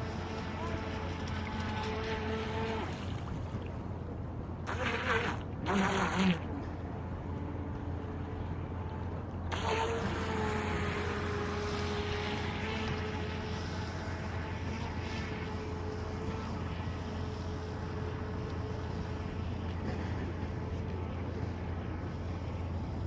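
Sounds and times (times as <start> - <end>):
constant low hum: 0.0 - 23.0.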